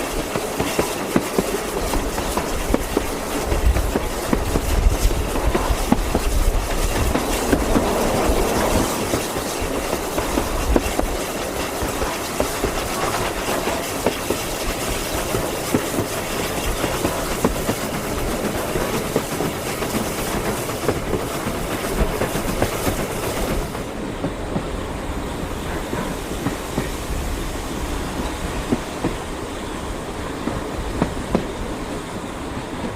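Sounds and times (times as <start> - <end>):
train wheels clicking on rails: 0.0 - 32.9.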